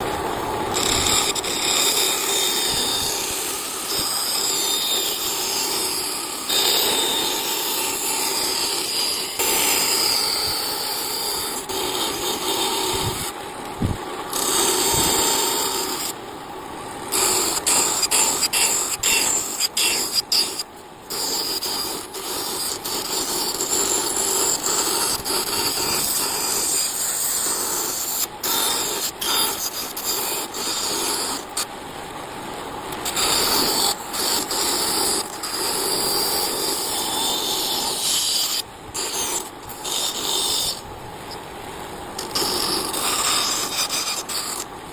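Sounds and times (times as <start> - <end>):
tool rasping wood: 0.7 - 13.4, 14.3 - 16.2, 17.1 - 31.6, 33.0 - 40.9, 42.2 - 44.7.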